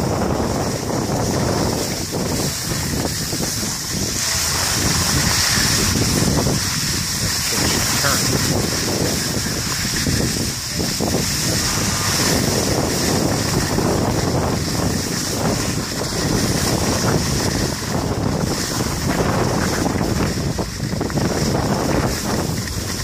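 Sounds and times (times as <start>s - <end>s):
skis sliding on packed snow: 0.0s - 23.0s
wind buffeting microphone: 0.0s - 23.0s.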